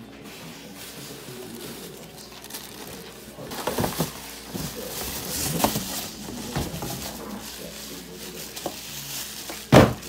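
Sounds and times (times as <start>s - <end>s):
plastic wrapping rustling: 0.0s - 10.0s.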